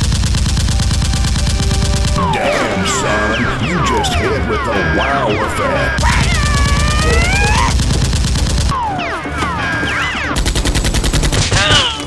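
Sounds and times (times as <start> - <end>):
sliding tones rising and falling: 0.0 - 11.5.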